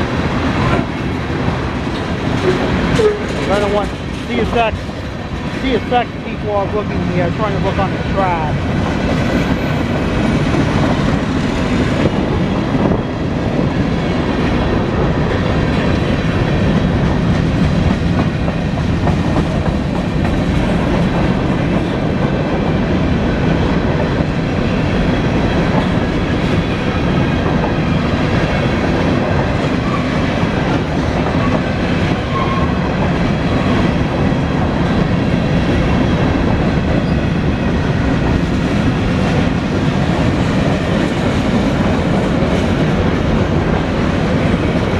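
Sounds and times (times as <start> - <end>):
freight train cars rolling past: 0.0 - 44.9.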